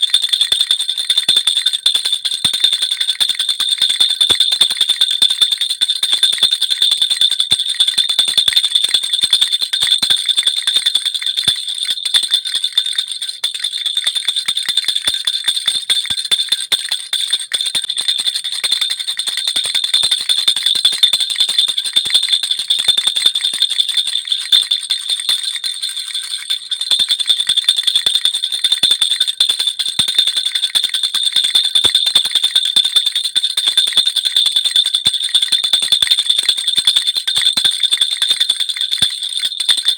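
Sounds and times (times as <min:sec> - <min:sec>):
baby rattle jingling: 0:00.0 - 0:32.8.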